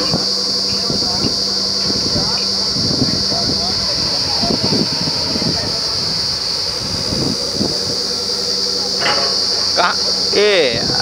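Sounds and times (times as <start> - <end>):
constant high hiss: 0.0 - 11.0
drilling rig rumbling: 0.0 - 11.0
short wavering squeals: 0.0 - 11.0.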